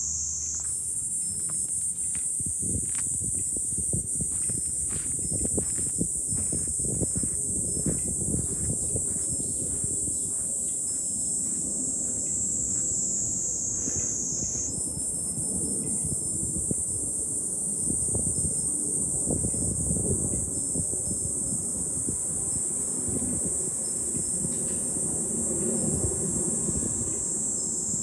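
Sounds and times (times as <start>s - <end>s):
cicadas buzzing: 0.0s - 28.0s
wind gusts on microphone: 0.8s - 28.0s.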